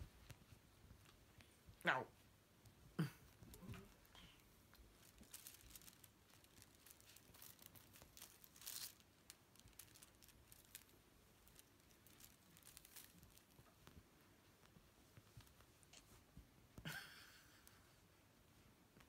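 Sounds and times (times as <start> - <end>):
kittens scratching on blanket: 0.0 - 16.8.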